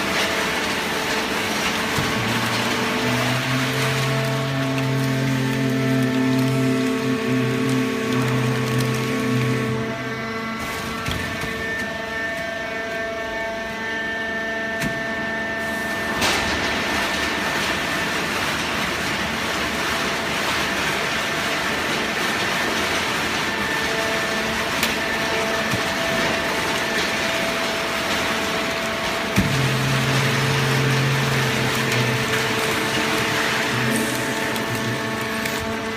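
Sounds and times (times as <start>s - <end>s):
baling press motor whine: 0.0s - 35.9s.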